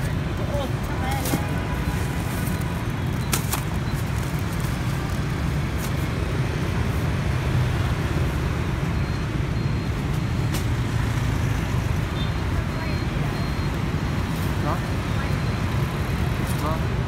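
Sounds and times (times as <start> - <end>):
road noise: 0.0 - 17.0
scooter engines: 0.0 - 17.0.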